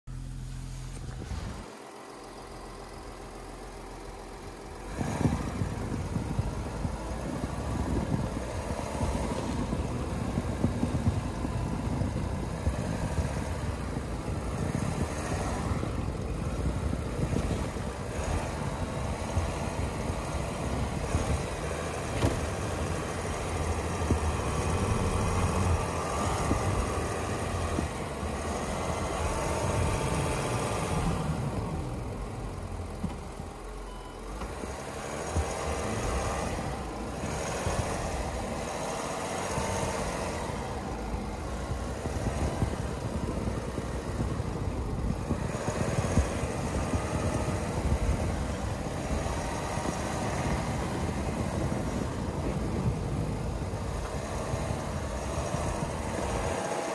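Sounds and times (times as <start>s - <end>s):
engine rumble: 0.0s - 56.9s
tyres crackling through snow: 0.1s - 56.9s.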